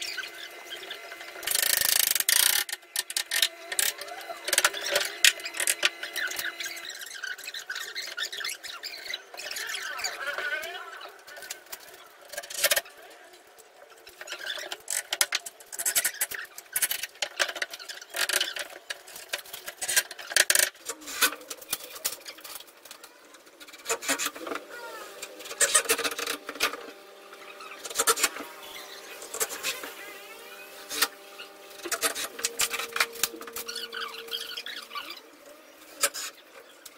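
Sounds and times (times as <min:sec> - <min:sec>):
steady hum: 0:00.0 - 0:36.9.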